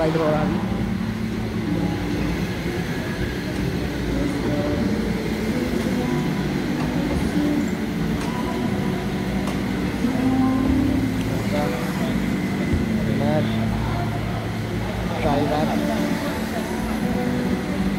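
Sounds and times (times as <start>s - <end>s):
go-kart motors running: 0.0s - 17.9s.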